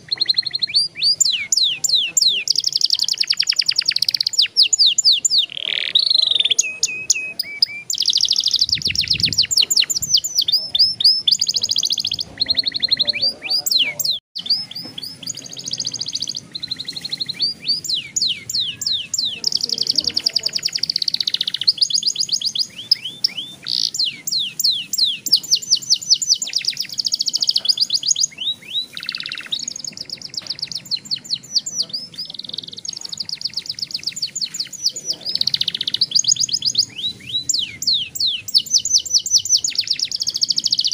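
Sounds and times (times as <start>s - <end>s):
canary singing rolling trills: 0.0s - 40.9s.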